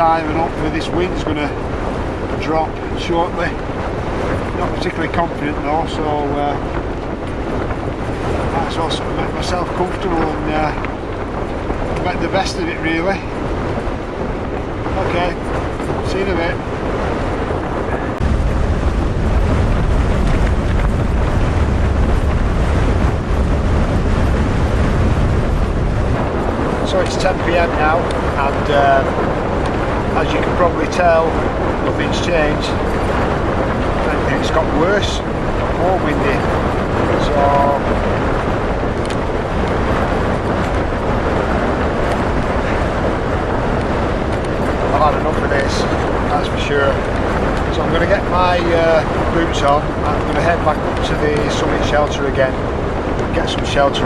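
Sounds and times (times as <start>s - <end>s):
tent fabric rattling: 0.0s - 54.0s
wind noise on microphone: 0.0s - 54.0s
wind roaring: 0.0s - 54.0s.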